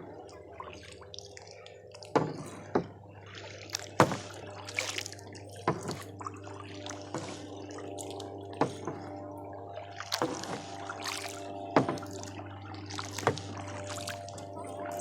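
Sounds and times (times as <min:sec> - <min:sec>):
water splashes: 0:00.0 - 0:15.0
paddle dipping into water: 0:00.2 - 0:15.0.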